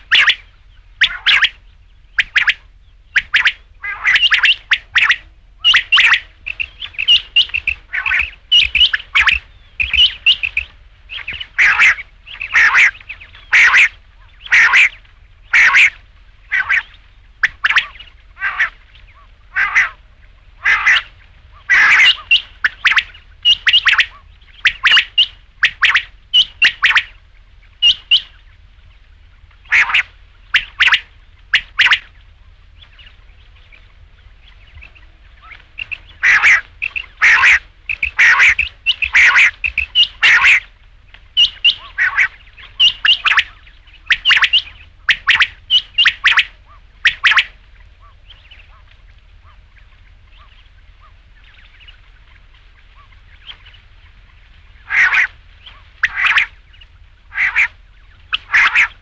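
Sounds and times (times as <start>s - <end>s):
faint low hum: 0.0s - 59.0s
quail calling: 0.0s - 59.0s.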